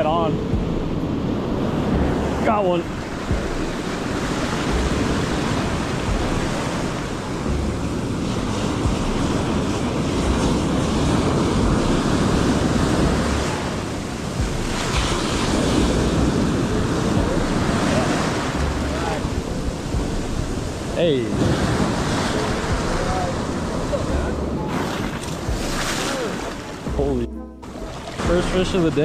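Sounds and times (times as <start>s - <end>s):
wind buffeting microphone: 0.0s - 27.1s
ocean surf breaking: 0.0s - 29.0s.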